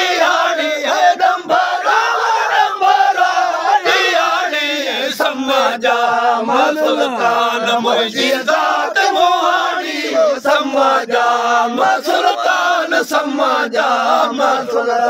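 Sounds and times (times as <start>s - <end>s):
men singing together: 0.0s - 15.0s.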